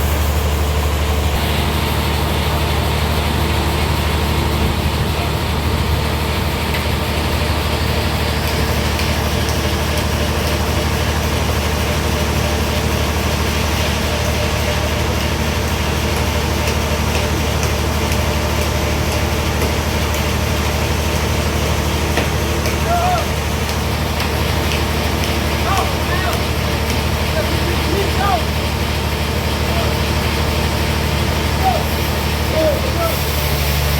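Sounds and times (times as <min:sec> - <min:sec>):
sawmill engine droning: 0:00.0 - 0:33.9.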